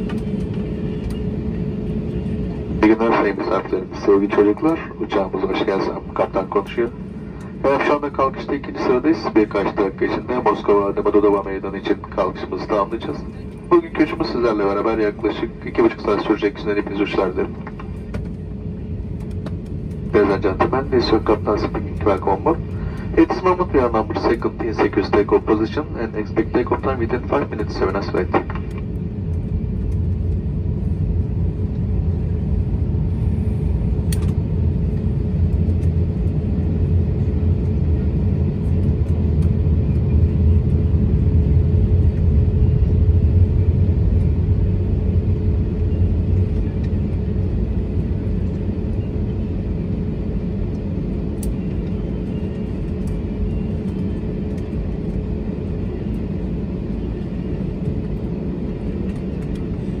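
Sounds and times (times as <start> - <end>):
aircraft cabin engine rumble: 0.0 - 60.0.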